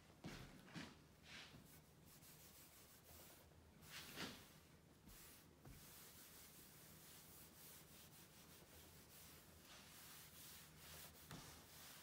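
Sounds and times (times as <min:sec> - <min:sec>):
wipe rubbing on wooden table: 0:01.4 - 0:12.0.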